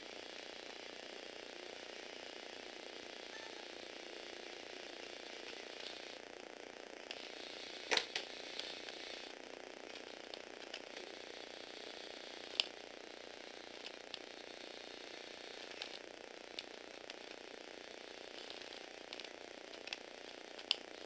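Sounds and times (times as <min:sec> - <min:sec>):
small electric motors whirring: 0:00.0 - 0:06.4, 0:07.0 - 0:21.0.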